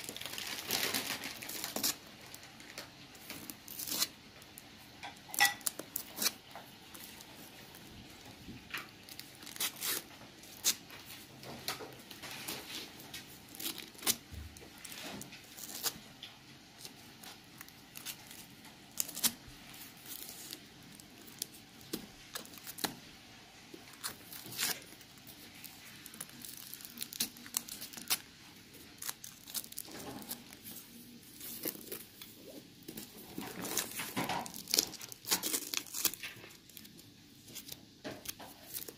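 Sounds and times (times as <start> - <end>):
foil wrapper crinkling: 0.0 - 38.9.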